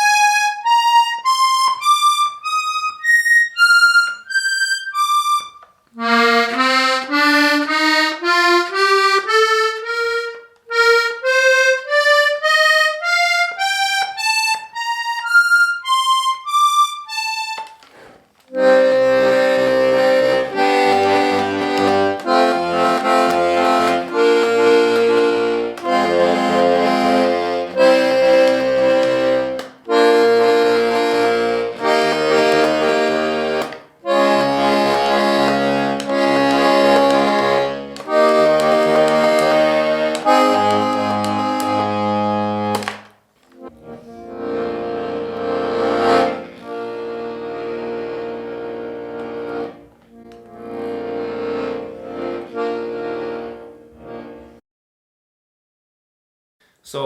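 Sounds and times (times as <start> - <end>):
button accordion playing: 0.0 - 54.6.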